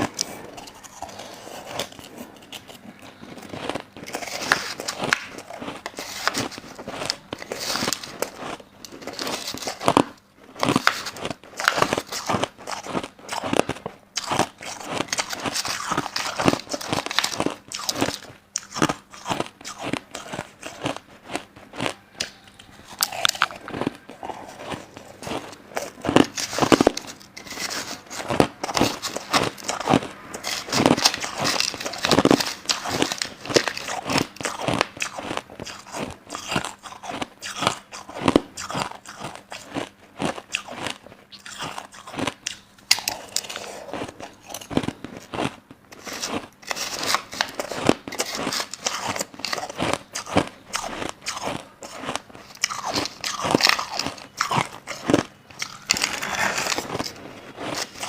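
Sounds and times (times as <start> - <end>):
crushed ice crunching: 0.0 - 42.3, 42.9 - 58.0.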